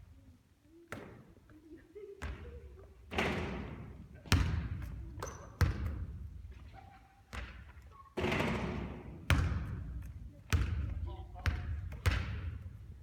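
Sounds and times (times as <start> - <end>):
basketball bouncing on gym floor: 2.2 - 13.0.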